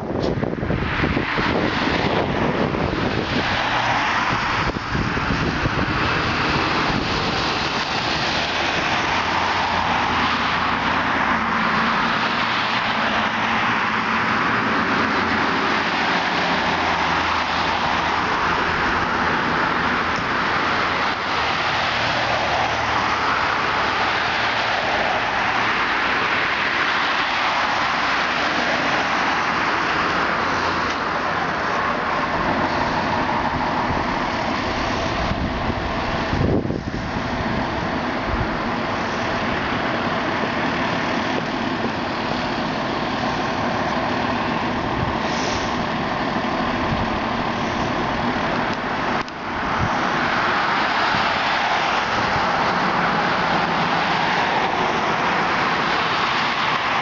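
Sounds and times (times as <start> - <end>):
fire engine driving: 0.0 - 57.0.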